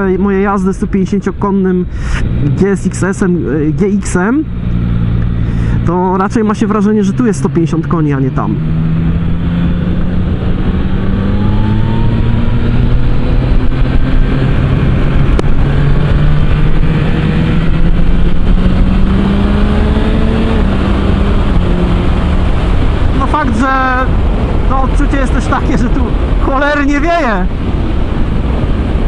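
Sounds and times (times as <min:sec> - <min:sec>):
motorcycle engine riding: 0:00.0 - 0:29.0
wind rush: 0:00.0 - 0:29.0.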